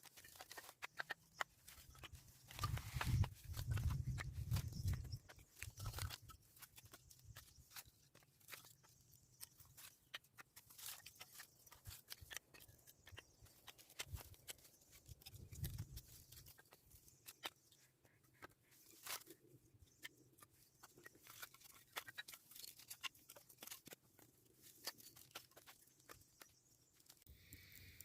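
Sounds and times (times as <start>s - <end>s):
faint small clicks and crackles: 0.0s - 28.0s.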